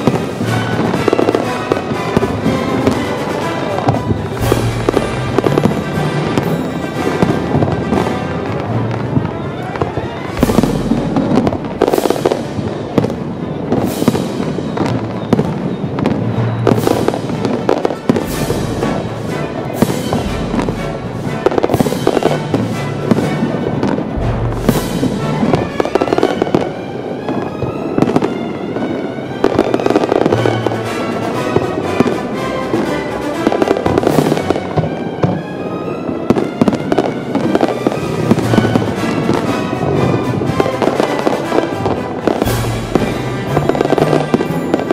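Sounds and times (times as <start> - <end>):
fireworks bursting and crackling: 0.0 - 44.9
music playing: 0.0 - 44.9.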